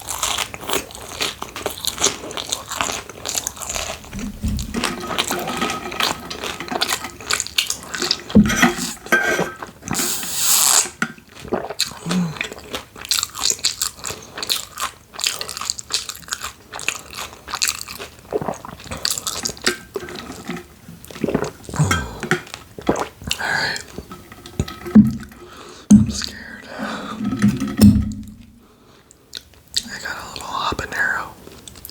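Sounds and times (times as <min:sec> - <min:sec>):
person chewing and crunching food: 0:00.0 - 0:27.1.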